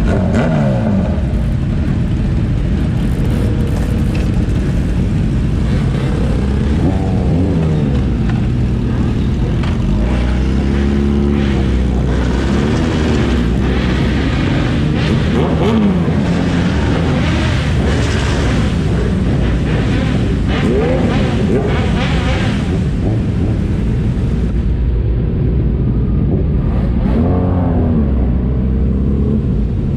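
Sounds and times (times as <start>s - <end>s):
motorcycle engines revving: 0.0s - 29.9s.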